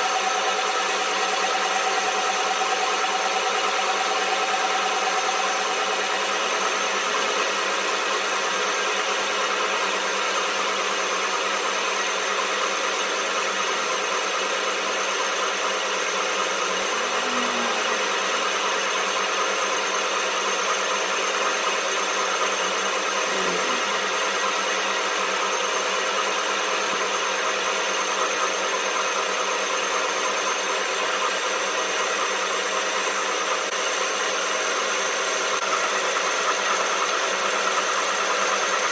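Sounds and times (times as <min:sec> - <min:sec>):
workshop machine running: 0:00.0 - 0:38.9.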